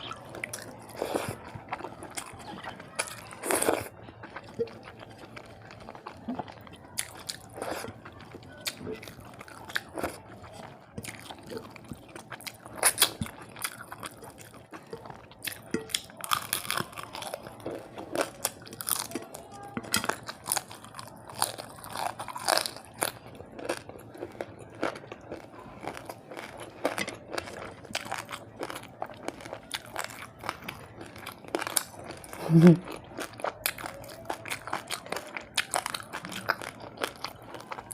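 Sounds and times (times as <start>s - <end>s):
wet chewing: 0.0s - 37.9s.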